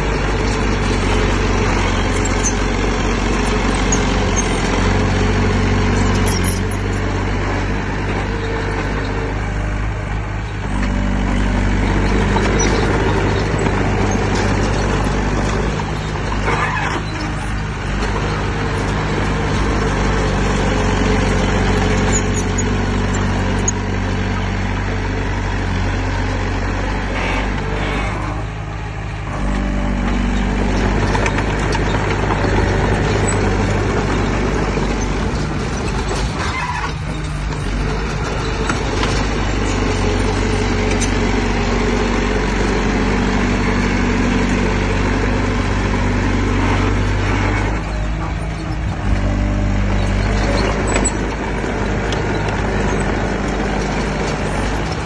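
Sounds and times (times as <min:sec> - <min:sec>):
earthmoving machine diesel engine: 0:00.0 - 0:55.0.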